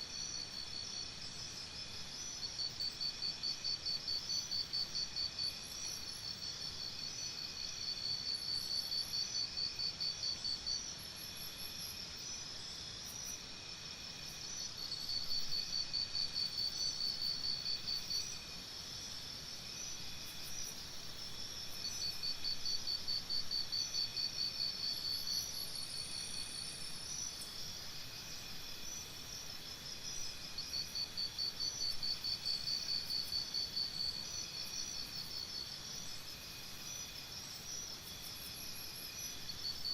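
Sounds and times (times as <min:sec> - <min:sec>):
high-pitched insect hum: 0:00.0 - 0:39.9
rapid pulsed insect trill: 0:00.0 - 0:39.9.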